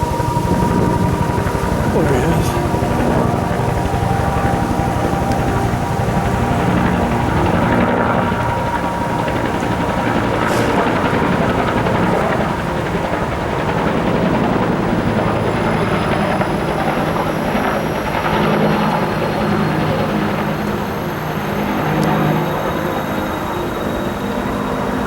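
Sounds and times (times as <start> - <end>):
helicopter rotor and engine drone: 0.0 - 25.0.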